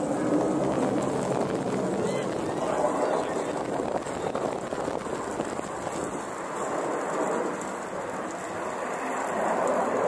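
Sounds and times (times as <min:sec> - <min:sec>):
jet engines roaring overhead: 0:00.0 - 0:10.0.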